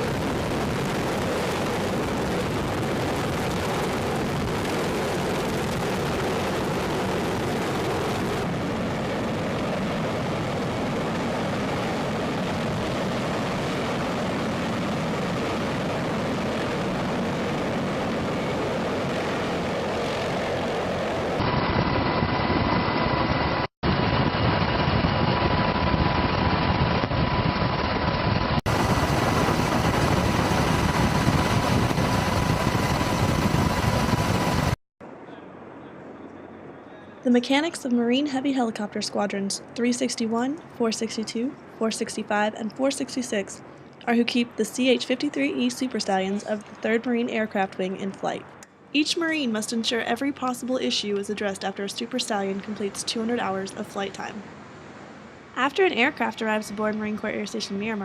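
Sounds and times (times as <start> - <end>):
helicopter rotor noise: 0.0 - 58.0
high turbine whine: 0.0 - 58.0.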